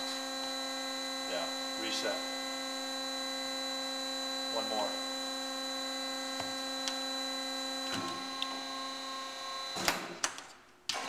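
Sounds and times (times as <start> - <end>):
band saw machine hum: 0.0 - 9.8.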